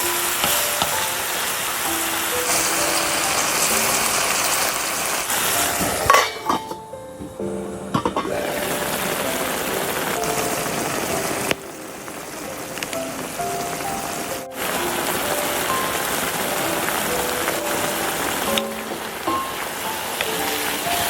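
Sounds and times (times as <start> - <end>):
food frying in hot oil: 0.0 - 6.8, 8.0 - 21.0
soft background music: 0.0 - 21.0.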